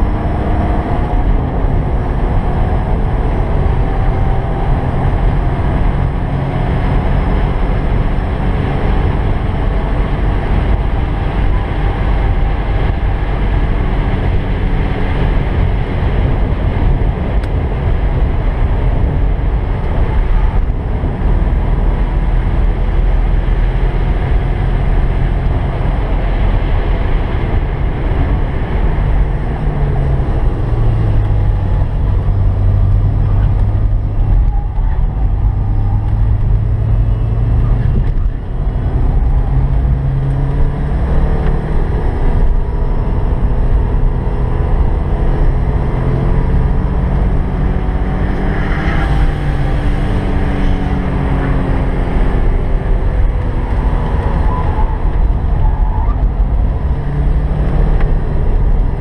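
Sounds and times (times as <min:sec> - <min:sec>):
car engine revving in cabin: 0:00.0 - 0:59.0.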